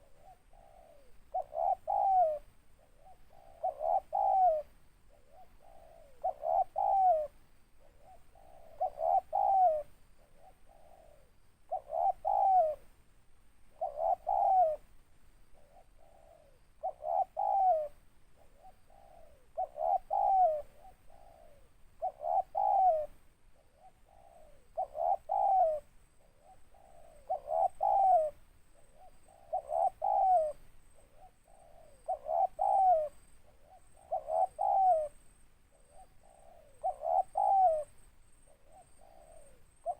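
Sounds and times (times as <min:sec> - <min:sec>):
dove cooing: 0:00.0 - 0:13.0, 0:13.6 - 0:39.9.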